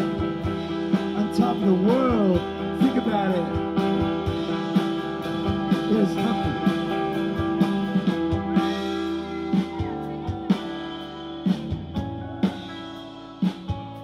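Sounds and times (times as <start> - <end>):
bass guitar: 0.0 - 14.0
electric guitars ringing chords: 0.0 - 14.0.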